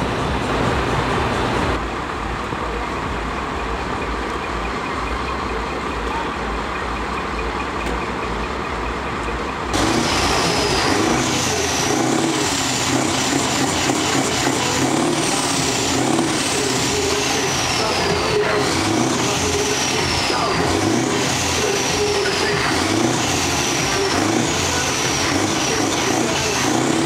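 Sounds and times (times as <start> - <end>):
diesel truck engines idling: 0.0 - 27.0.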